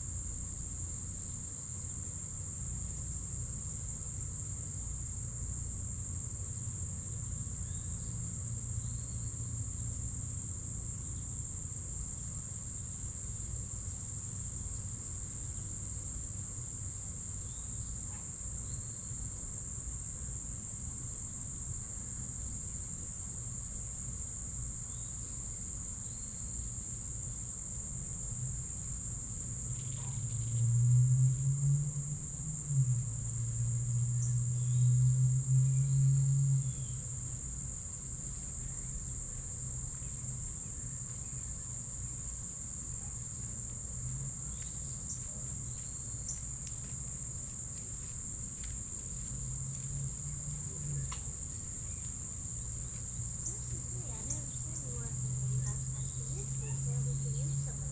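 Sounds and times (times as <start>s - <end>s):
crickets trilling: 0.0s - 57.9s.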